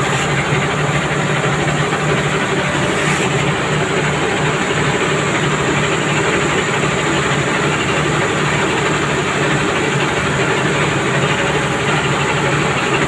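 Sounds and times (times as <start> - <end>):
rice mill machinery drone: 0.0 - 13.0.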